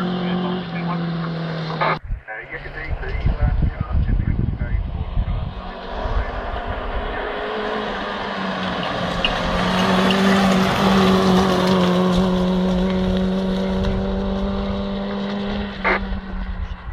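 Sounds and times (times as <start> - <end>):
rally car engine at high revs: 0.0 - 2.0, 4.8 - 16.9.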